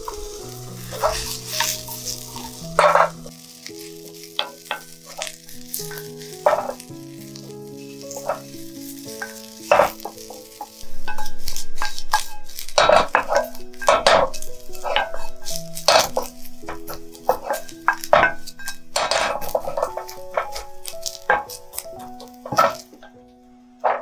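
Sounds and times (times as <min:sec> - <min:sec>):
wooden spatula scraping pan: 0:00.0 - 0:23.2
onion sizzling in frying pan: 0:00.0 - 0:24.0.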